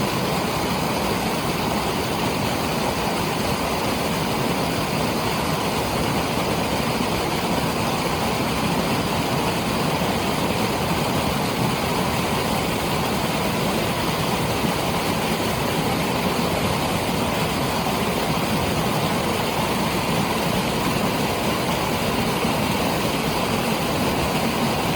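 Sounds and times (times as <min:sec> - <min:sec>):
water roaring from dam outlets: 0:00.0 - 0:24.9.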